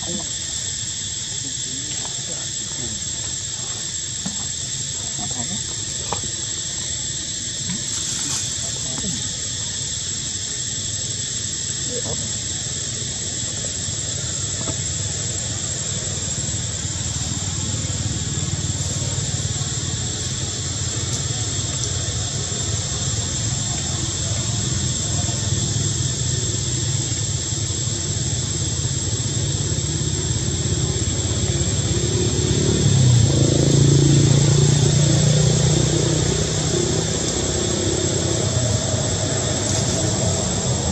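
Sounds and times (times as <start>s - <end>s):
vehicle engine hum: 0.0s - 40.9s.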